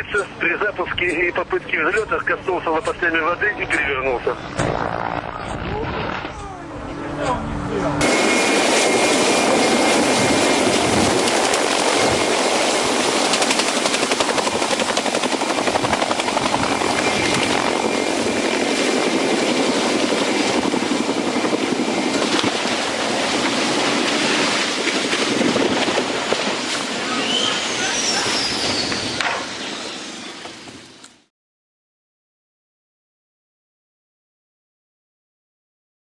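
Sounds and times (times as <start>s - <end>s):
helicopter rotor chop: 0.0s - 30.8s
helicopter engine noise: 0.0s - 31.0s
high whine: 0.0s - 31.1s.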